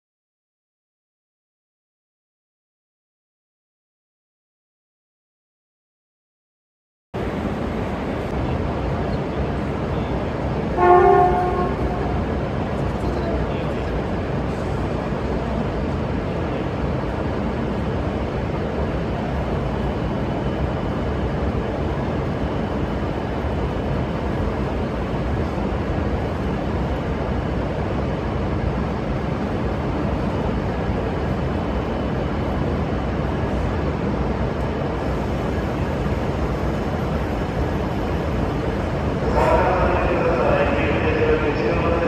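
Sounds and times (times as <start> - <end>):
train equipment rumble and hiss: 7.2 - 42.0.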